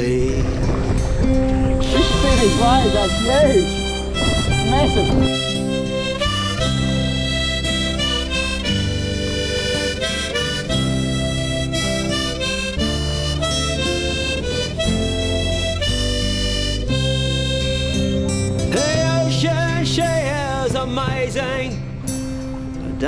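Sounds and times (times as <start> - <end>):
low chord accompaniment: 0.4 - 20.7
harmonica melody: 1.4 - 21.2.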